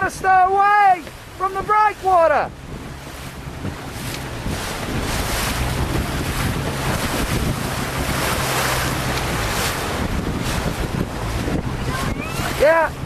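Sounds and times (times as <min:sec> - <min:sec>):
small waves breaking: 0:00.0 - 0:13.0
wind buffeting microphone: 0:00.0 - 0:13.0.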